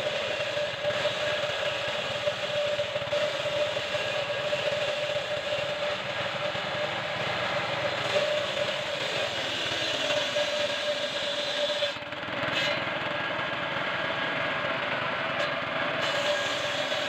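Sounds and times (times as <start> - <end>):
circular saw whine: 0.0 - 17.0
small engine running: 0.0 - 17.0.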